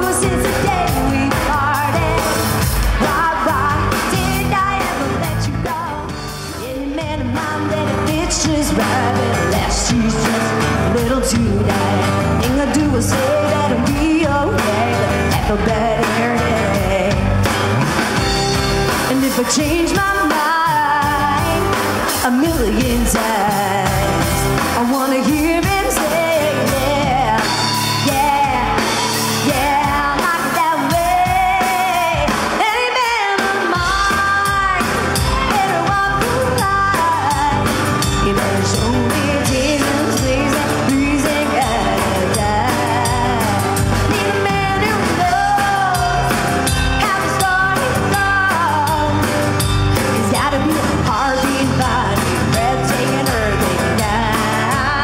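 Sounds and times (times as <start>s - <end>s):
woman singing into microphone: 0.0s - 17.4s, 18.9s - 55.0s
drum kit: 0.0s - 55.0s
electric guitar: 0.0s - 55.0s.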